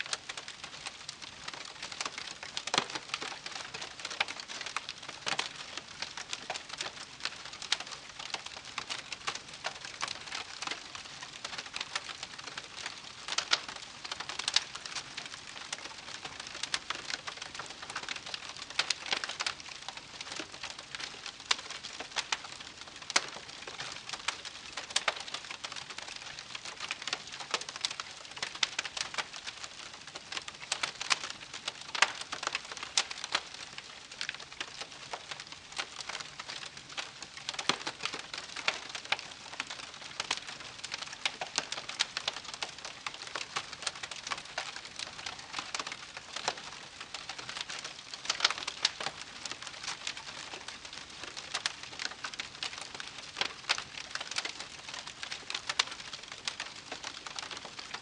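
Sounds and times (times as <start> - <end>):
campfire crackling and popping: 0.1 - 58.0.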